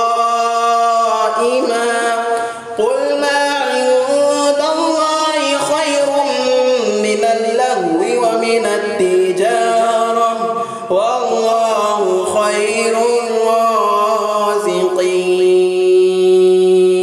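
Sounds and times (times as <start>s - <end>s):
man chanting recitation: 0.0s - 17.0s.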